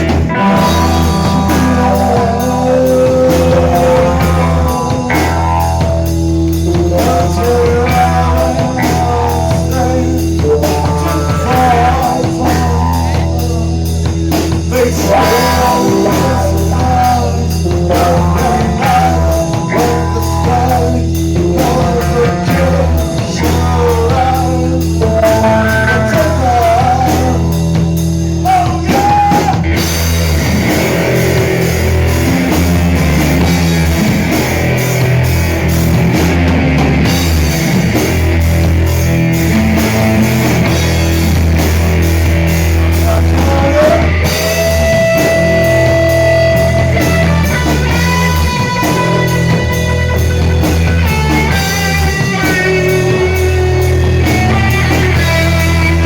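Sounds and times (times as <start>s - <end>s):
bass guitar: 0.0s - 56.0s
drum kit: 0.0s - 56.0s
electric guitar: 0.0s - 56.0s
rock band playing live: 0.0s - 56.0s.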